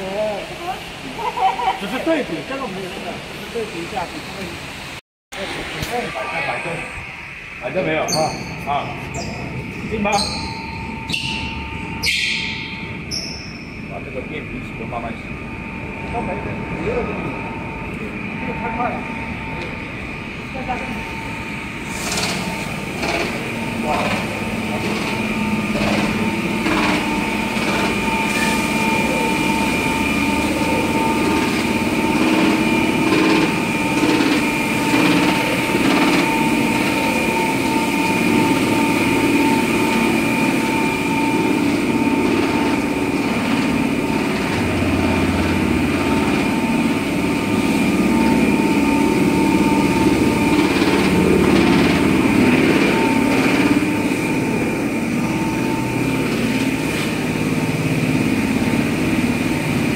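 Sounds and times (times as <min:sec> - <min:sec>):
machine motors humming: 0:00.0 - 0:59.9.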